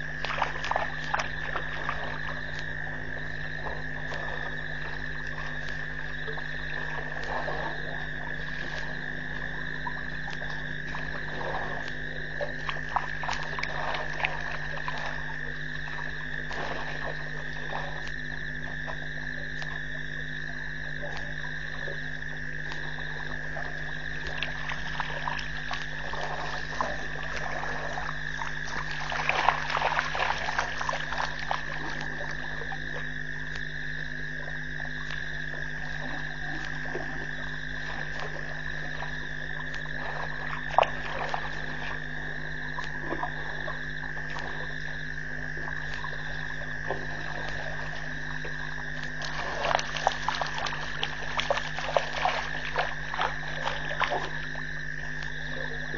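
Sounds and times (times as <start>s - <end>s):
frog croaks and clicks: 0.0s - 55.9s
low steady hum: 0.0s - 55.9s.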